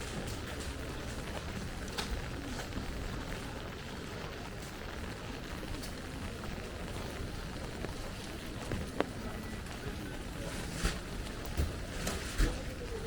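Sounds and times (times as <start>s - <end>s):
light rain on an umbrella: 0.0s - 13.0s.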